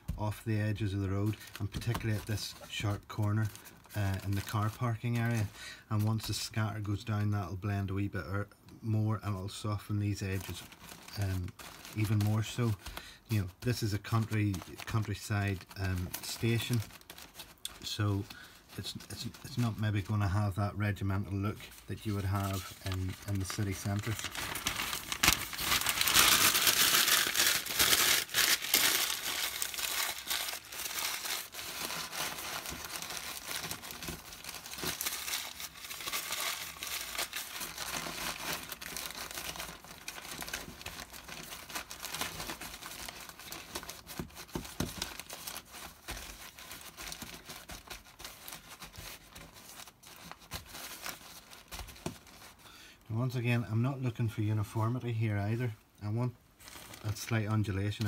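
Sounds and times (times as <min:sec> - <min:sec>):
newspaper crumpling: 0:00.0 - 0:06.6, 0:09.6 - 0:52.6, 0:56.6 - 0:58.0.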